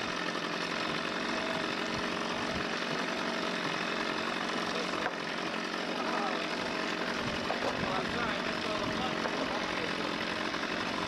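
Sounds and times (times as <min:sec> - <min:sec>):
motor running with rattling clatter: 0:00.0 - 0:11.0.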